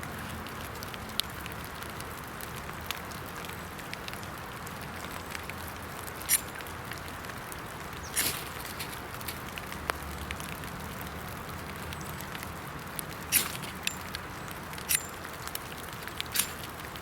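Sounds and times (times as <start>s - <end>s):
rain patter in woods: 0.0s - 17.0s
small ticks: 0.2s - 17.0s.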